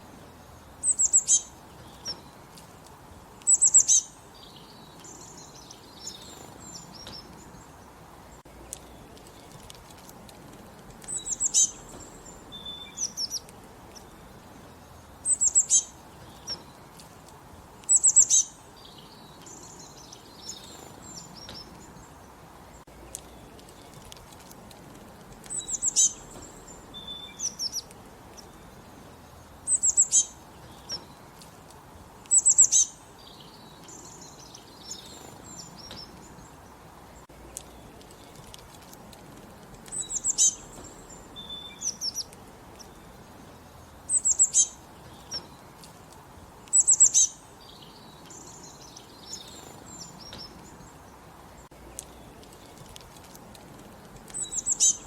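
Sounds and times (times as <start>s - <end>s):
faint steady hiss: 0.0s - 55.0s
songbird chirping: 0.0s - 55.0s.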